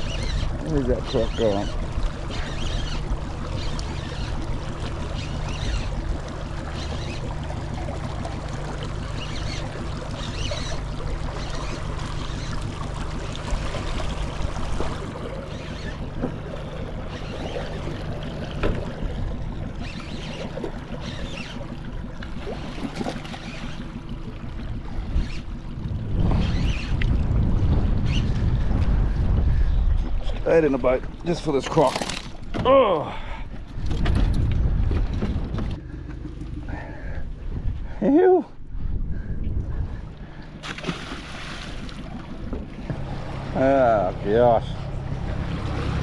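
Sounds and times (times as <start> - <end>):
small boat motor running: 0.0 - 46.0
water splashing along hull: 0.0 - 46.0.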